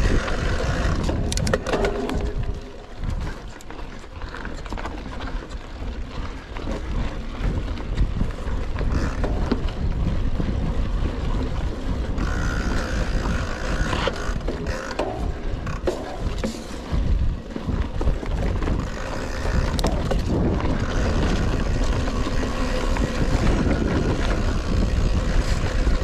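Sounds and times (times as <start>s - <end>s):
bike rattle and tyre noise: 0.0s - 26.0s
wind rumbling on microphone: 0.0s - 26.0s.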